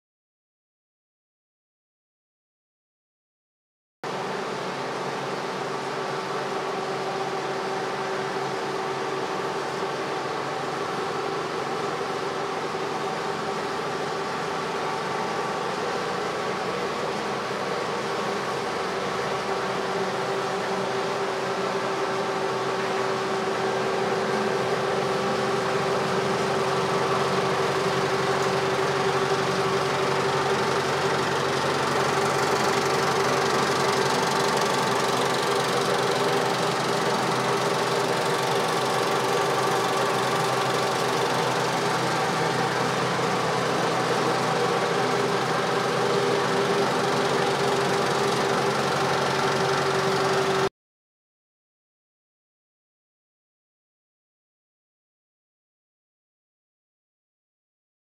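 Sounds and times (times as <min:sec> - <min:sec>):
film projector whirring: 0:04.1 - 0:50.7.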